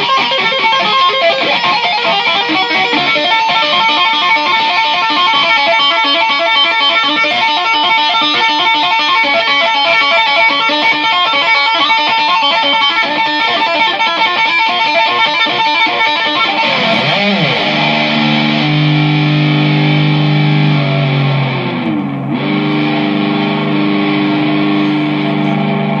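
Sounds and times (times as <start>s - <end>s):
electric guitar music: 0.0s - 26.0s.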